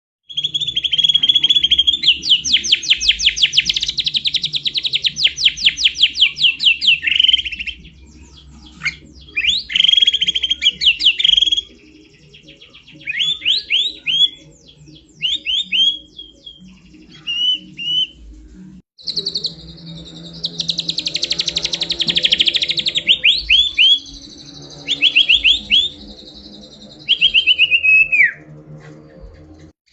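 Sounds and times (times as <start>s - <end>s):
songbird trilling and chattering: 0.3s - 18.1s, 19.0s - 28.4s.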